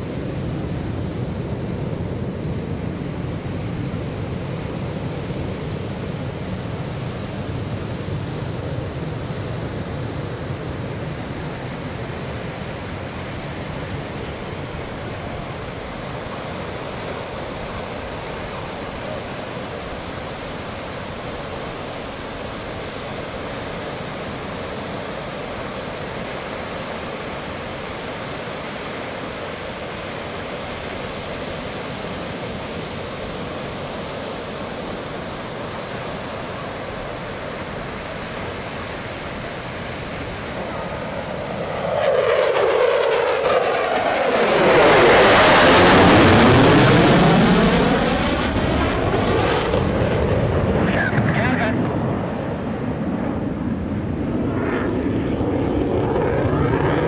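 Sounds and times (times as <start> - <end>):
distant jet roar: 0.0 - 57.0.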